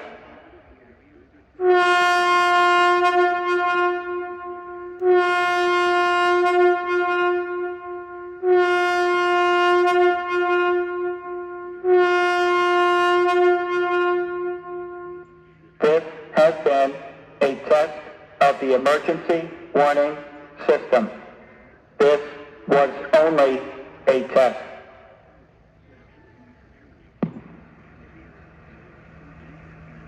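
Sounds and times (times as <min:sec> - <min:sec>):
warning siren horn blasts: 0:00.0 - 0:25.4.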